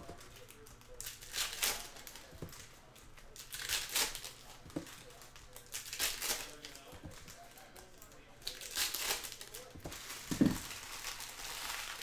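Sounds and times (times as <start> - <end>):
foil wrapper crinkling and tearing: 0.1 - 2.7, 3.3 - 12.0.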